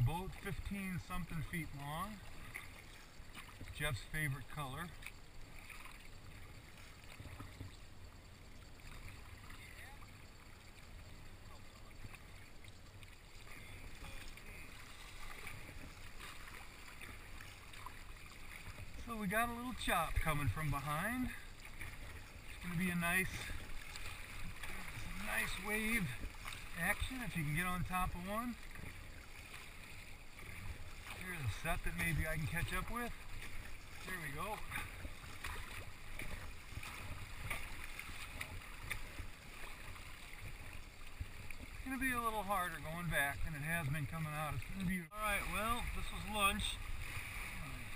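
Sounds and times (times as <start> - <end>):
paddle splashes: 0.0 - 47.9
water lapping around kayak: 0.0 - 47.9.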